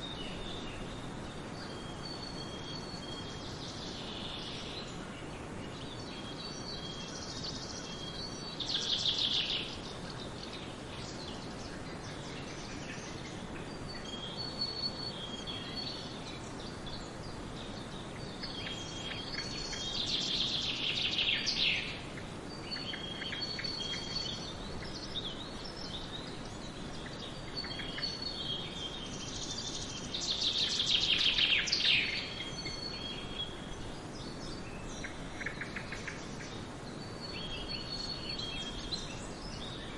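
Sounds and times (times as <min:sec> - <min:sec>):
steady background hiss: 0:00.0 - 0:39.9
bird trilled song: 0:05.7 - 0:39.9.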